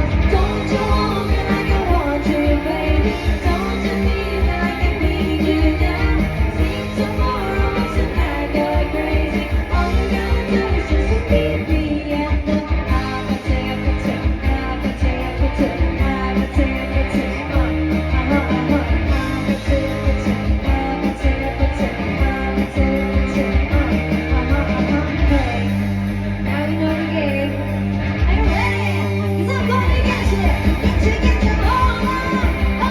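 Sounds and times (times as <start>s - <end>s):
person singing: 0.0s - 25.8s, 26.5s - 32.9s
bass: 0.0s - 32.9s
driving drum beat: 0.0s - 32.9s
electric guitar: 0.0s - 32.9s
live rock band: 0.0s - 32.9s.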